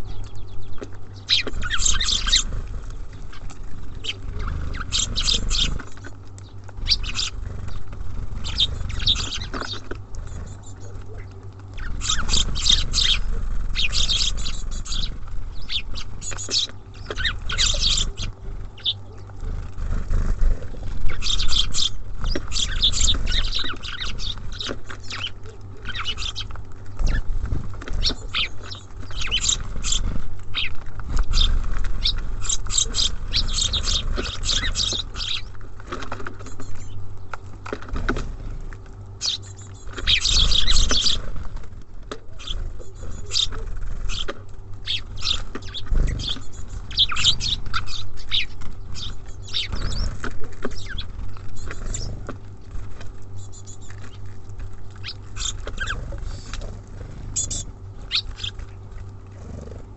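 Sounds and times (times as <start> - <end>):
songbirds chirping and twittering: 0.0 - 59.9
steady low rumble: 0.0 - 59.9.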